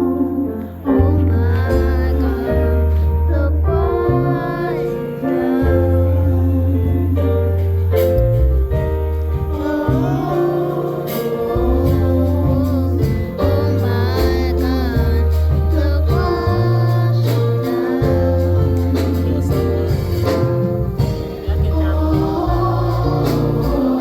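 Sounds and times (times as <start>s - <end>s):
gospel song with singers: 0.0s - 24.0s.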